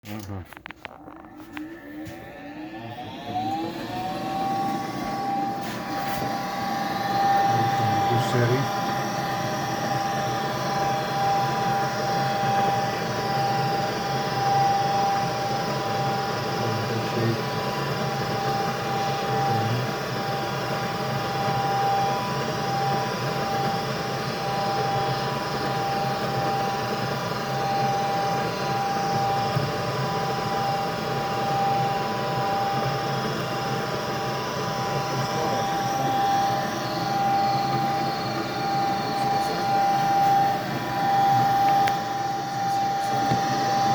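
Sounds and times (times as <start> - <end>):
furnace motor whining: 0.0 - 43.9.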